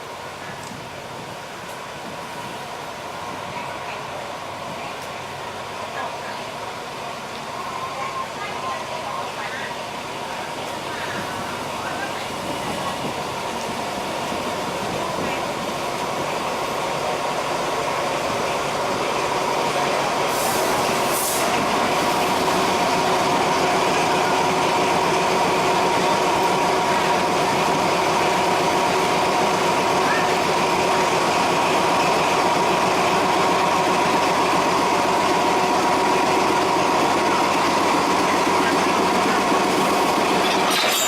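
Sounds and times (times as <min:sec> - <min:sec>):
diesel train engine hum: 0:00.0 - 0:41.0.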